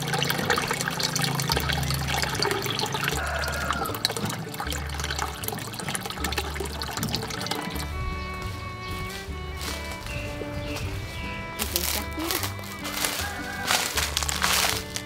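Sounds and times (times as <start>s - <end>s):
water splashing into pond: 0.0s - 10.4s, 11.5s - 15.0s.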